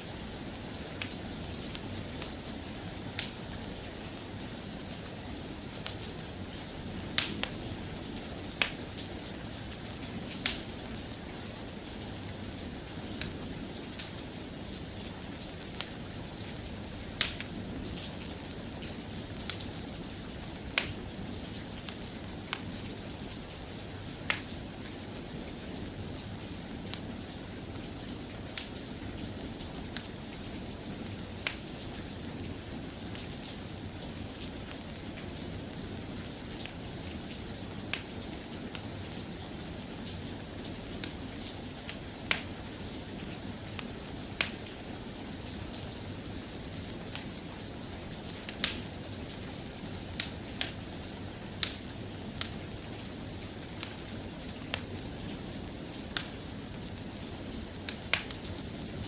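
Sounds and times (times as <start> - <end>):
soft steady rain: 0.0 - 59.0.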